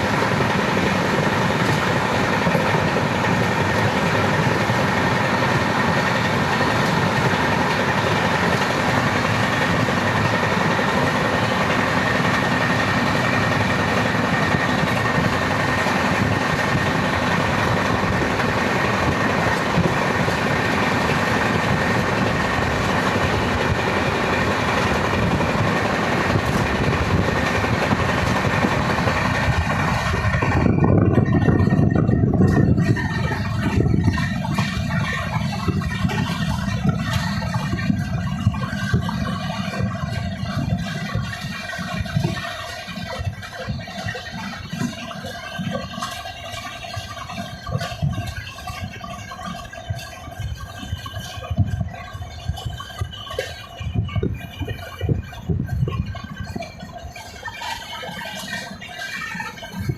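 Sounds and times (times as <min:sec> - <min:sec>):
moving train rumble: 0:00.0 - 0:59.9.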